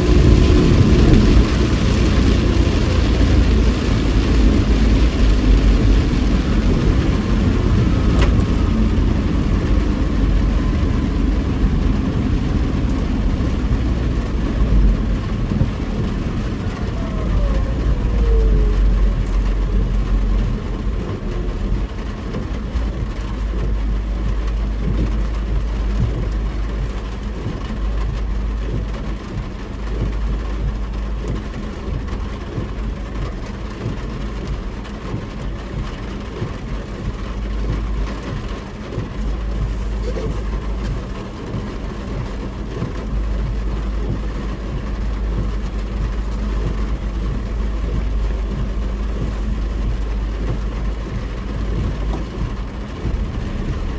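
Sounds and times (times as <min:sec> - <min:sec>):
car engine and road rumble: 0:00.0 - 0:53.9
rain on car: 0:00.0 - 0:53.9
tyres hissing on wet road: 0:00.0 - 0:53.9.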